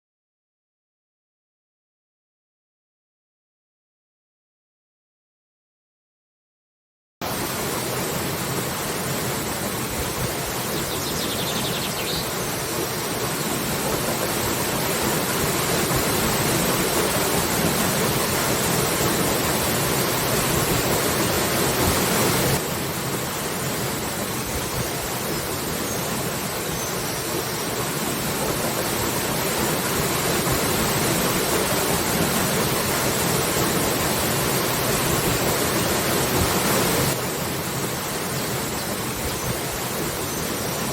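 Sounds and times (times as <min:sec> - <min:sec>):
waterfall rushing: 0:07.2 - 0:40.9.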